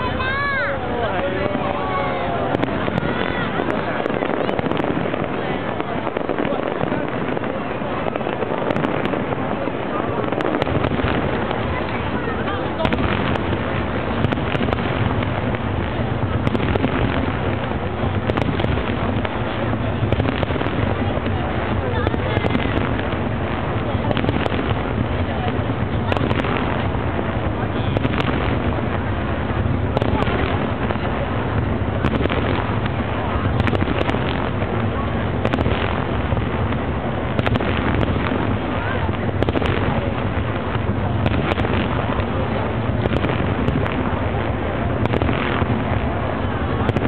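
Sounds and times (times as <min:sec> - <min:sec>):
fireworks bursts rumbling: 0:00.0 - 0:47.0
fireworks crackling pops: 0:00.0 - 0:47.0.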